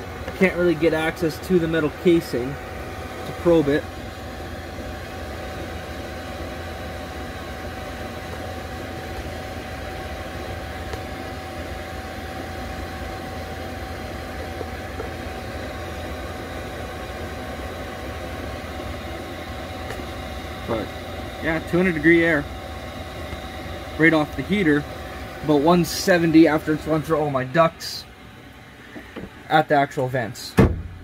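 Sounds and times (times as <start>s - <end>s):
air heater humming with thin tone: 0.0s - 31.0s.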